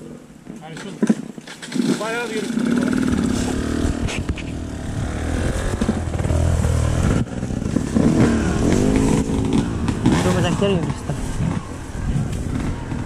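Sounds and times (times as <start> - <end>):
dirt bike engine revving: 1.7 - 13.0.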